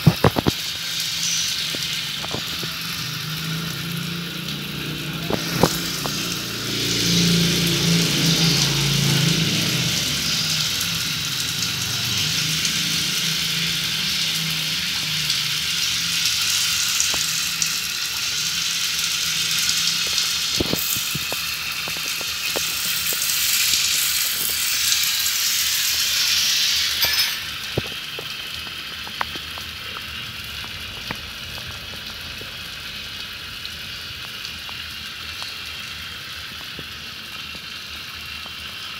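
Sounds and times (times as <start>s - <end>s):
water running from a tap: 0.0s - 38.9s.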